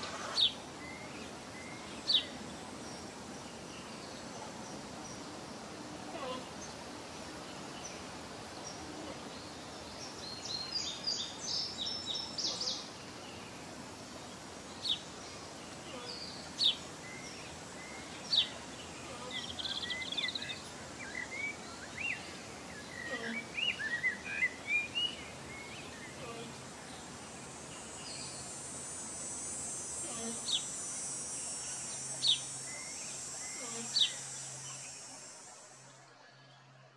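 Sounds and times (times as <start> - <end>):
songbirds chirping and singing: 0.0 - 28.8, 31.4 - 36.8
outdoor background noise: 0.0 - 36.9.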